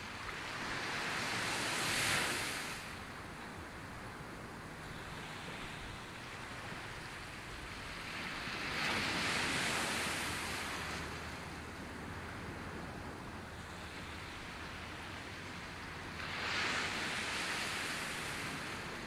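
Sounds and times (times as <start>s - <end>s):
steady hiss of the sea: 0.0s - 19.0s.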